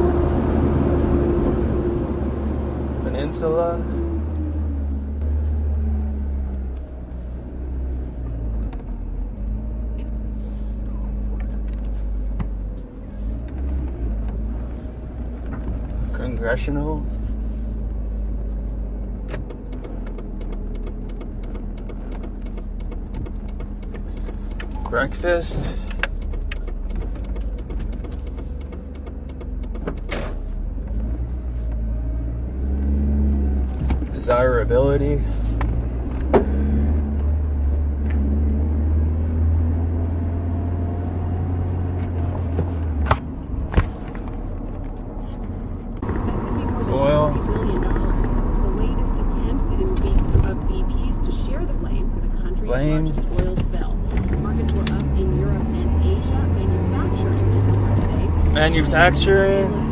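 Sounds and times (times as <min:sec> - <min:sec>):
motor vehicle rumbling: 0:00.0 - 0:59.9.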